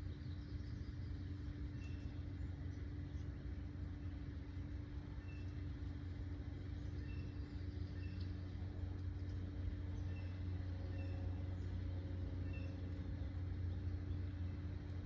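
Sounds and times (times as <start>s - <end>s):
constant hum: 0.0s - 15.0s
steady low rumble: 0.0s - 15.0s.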